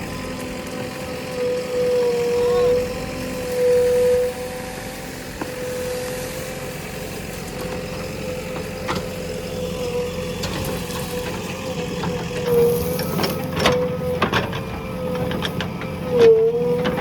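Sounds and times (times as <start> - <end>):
diesel engine running: 0.0 - 17.0
steady whine: 0.0 - 17.0.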